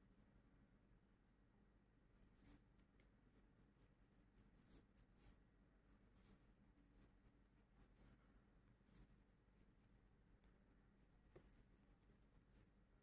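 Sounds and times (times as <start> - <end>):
crochet hook rustling yarn: 2.1 - 13.0.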